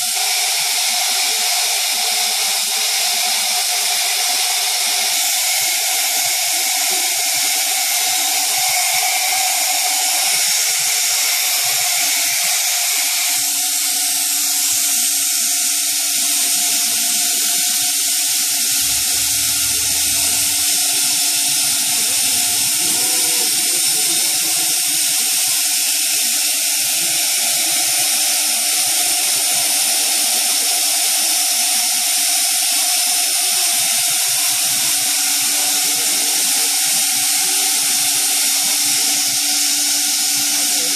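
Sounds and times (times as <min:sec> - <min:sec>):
router spindle high whine: 0:00.0 - 0:40.9.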